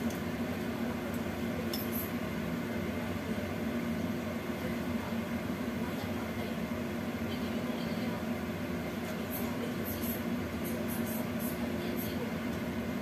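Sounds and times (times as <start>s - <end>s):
gas stove burner hiss: 0.0s - 13.0s.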